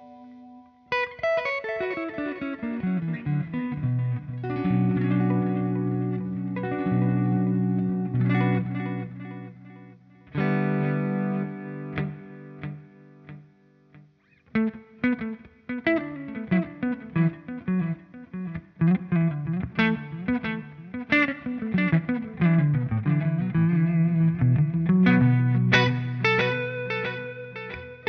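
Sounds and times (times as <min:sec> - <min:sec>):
electric guitar with delay: 0:00.0 - 0:13.6, 0:14.3 - 0:28.0.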